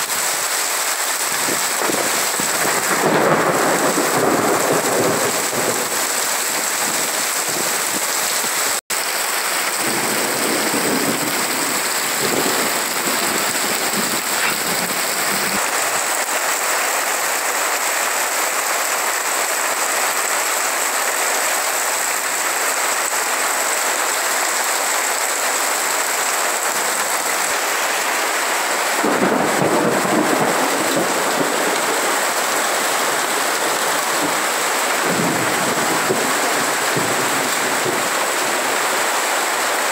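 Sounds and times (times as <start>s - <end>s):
heavy rain on trees and roof: 0.0s - 39.9s
water streaming off eaves: 0.0s - 39.9s.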